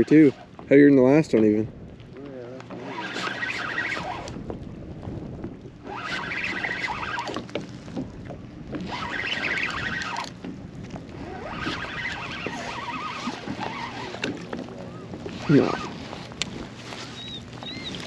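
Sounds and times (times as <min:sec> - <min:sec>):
water splashing beside a boat: 0:00.0 - 0:18.0.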